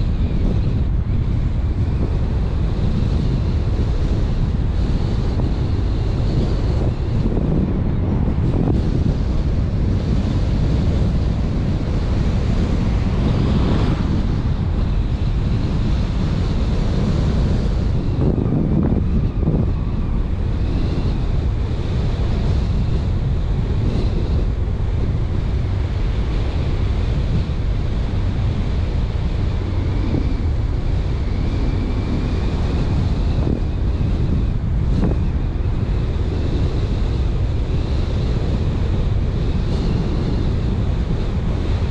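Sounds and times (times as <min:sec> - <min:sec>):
road noise from moving car: 0:00.0 - 0:41.9
wind rumble on microphone: 0:00.0 - 0:41.9.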